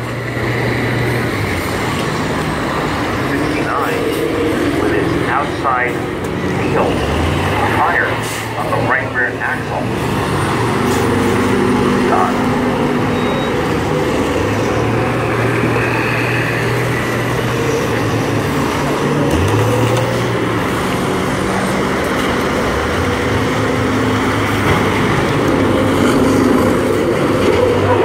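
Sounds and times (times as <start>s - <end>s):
bus engines racing: 0.0s - 28.0s.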